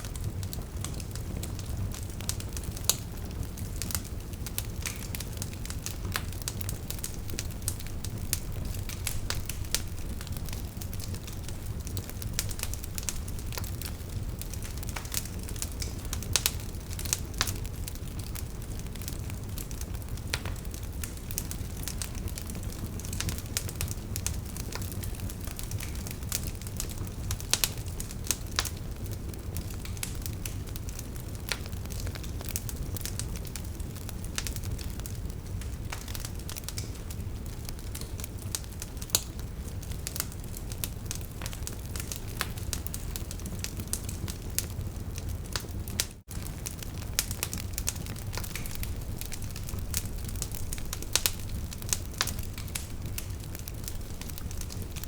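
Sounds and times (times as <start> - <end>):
low rumble of flames: 0.0 - 55.0.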